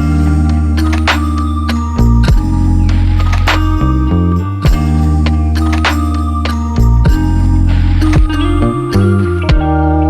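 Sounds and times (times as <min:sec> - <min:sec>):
instrumental music with beats: 0:00.0 - 0:10.0.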